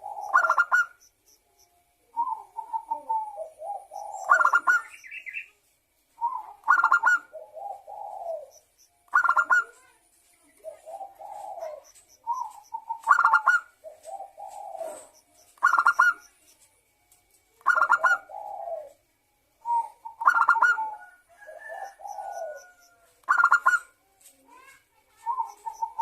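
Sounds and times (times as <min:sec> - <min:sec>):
dove cooing: 0:00.0 - 0:01.0, 0:02.1 - 0:05.3, 0:06.2 - 0:09.9, 0:10.5 - 0:16.3, 0:17.6 - 0:19.0, 0:19.6 - 0:26.0.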